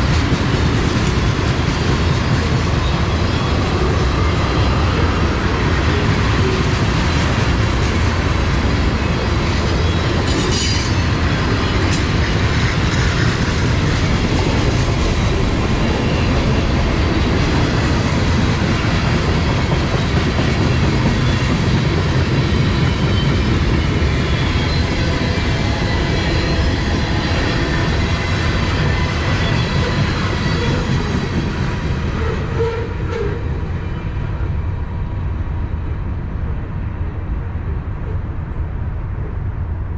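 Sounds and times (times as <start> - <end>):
freight train wheels rumbling on rails: 0.0 - 39.9.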